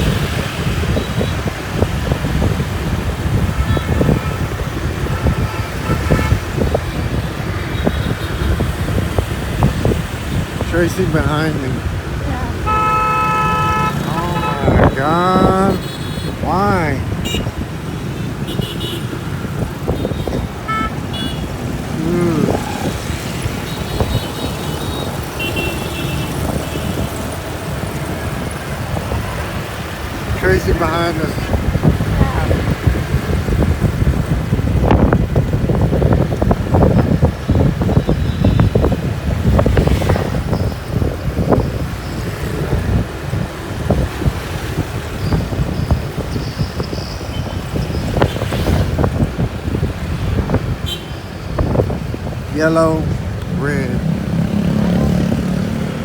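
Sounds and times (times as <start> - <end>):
motorbike engine and road rumble: 0.0 - 56.0
wind buffeting microphone: 0.0 - 56.0.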